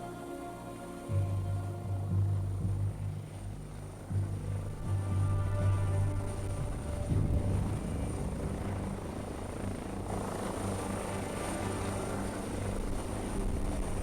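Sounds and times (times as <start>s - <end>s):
helicopter rotor drone: 0.0s - 14.0s.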